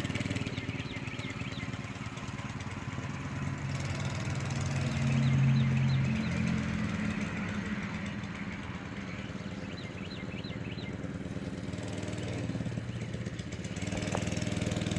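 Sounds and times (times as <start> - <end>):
small engine running: 0.0 - 14.9.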